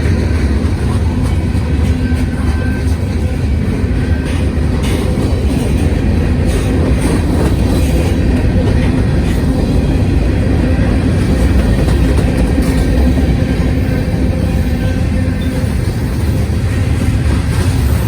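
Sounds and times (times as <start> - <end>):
freight train wheels rumbling: 0.0 - 18.0
wheels clicking over rail joints: 0.0 - 18.0.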